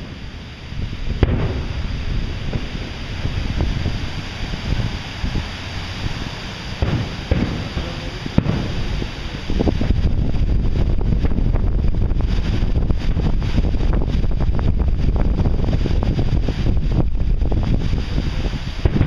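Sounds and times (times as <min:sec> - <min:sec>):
fireworks bursting with bangs: 0:00.0 - 0:19.0
wind buffeting microphone: 0:00.0 - 0:19.0.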